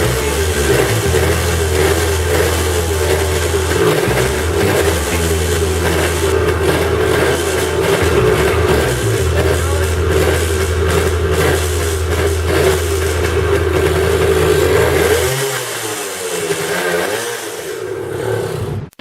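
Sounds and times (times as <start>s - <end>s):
two-stroke engine running: 0.0s - 18.1s.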